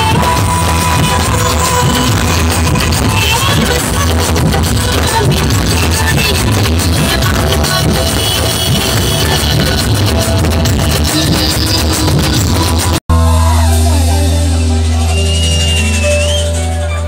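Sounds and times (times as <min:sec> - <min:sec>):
loud amplified music: 0:00.0 - 0:17.0
music with deep bass: 0:00.0 - 0:17.0.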